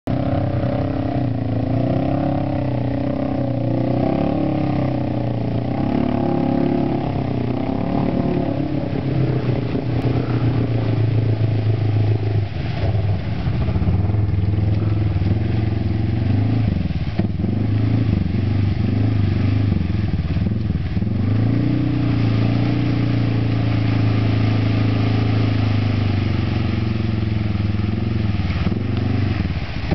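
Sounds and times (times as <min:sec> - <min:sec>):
quad engine revving: 0:00.0 - 0:29.4.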